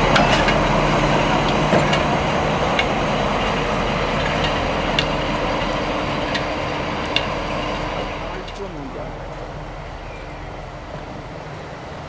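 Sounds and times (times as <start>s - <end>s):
diesel locomotive engine humming: 0.0s - 12.0s.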